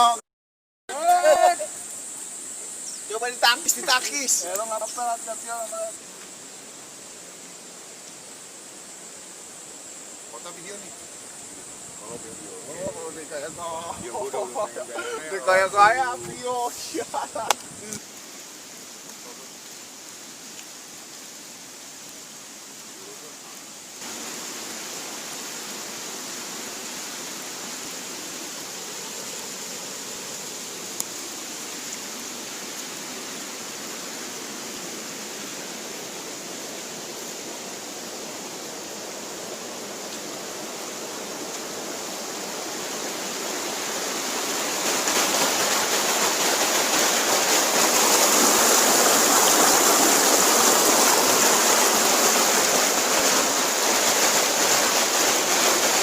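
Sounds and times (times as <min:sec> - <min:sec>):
flowing water rushing: 0:00.0 - 0:00.2, 0:00.9 - 0:56.0.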